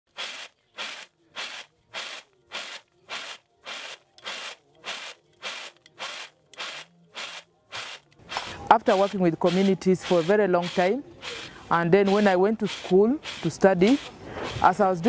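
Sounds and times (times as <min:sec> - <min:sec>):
dried beans rattling on metal plate: 0:00.1 - 0:15.0.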